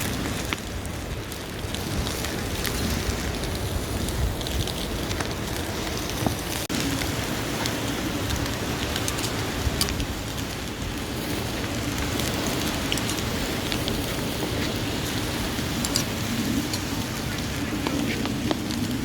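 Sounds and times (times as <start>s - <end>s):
fire crackles and pops: 0.0s - 19.0s
meat sizzling on a grill: 0.0s - 19.0s.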